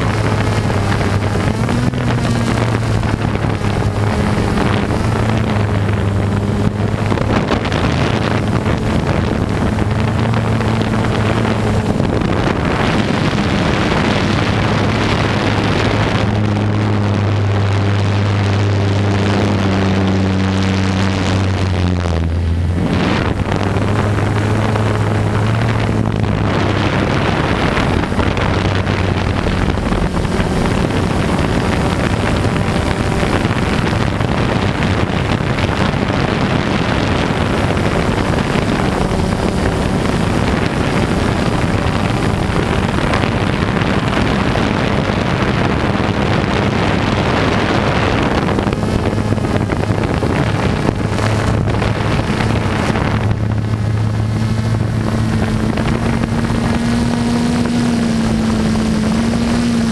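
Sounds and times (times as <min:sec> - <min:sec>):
quadcopter propellers buzzing: 0:00.0 - 0:59.9
wind on microphone: 0:00.0 - 0:59.9.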